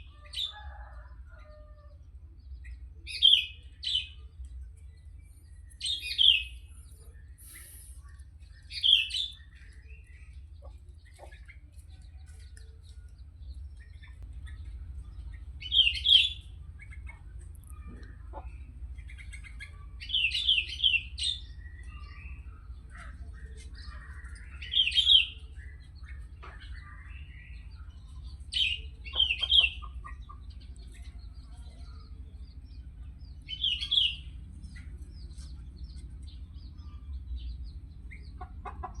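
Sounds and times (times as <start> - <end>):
low steady hum: 0.0 - 38.7
bird singing: 0.0 - 39.0
faint bird chirps: 2.6 - 38.5.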